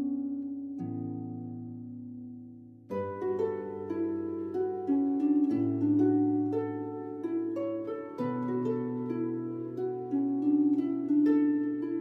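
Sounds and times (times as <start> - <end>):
plucked harp-like melody: 0.0 - 12.0.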